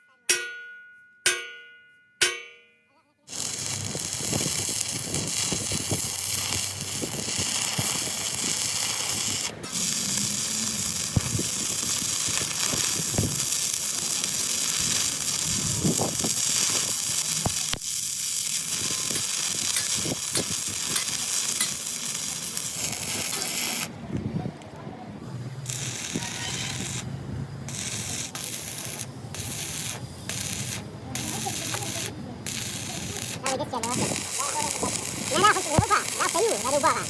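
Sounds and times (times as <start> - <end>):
welding arc sizzling and crackling: 3.3 - 24.3, 25.5 - 37.0.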